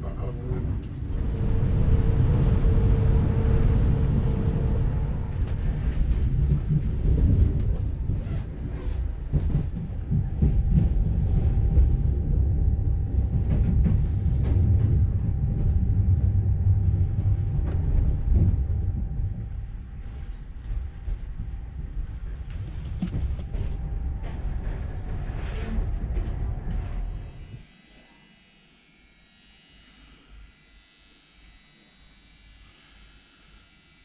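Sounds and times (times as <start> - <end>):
train running rumble: 0.0 - 27.6
faint steady whine: 0.0 - 34.0.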